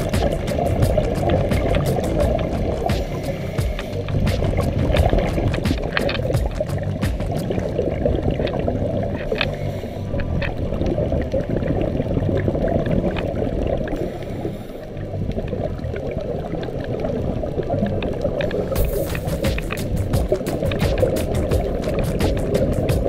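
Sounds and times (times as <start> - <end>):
sharp clicks and crackles: 0.0 - 9.6, 10.2 - 14.0, 15.3 - 23.0
underwater bubbles rumbling: 0.0 - 23.0.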